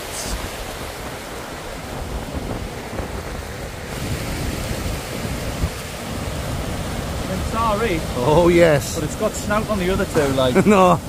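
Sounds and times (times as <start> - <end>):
waterfall and stream rushing: 0.0 - 11.0
wind buffeting microphone: 0.0 - 11.0.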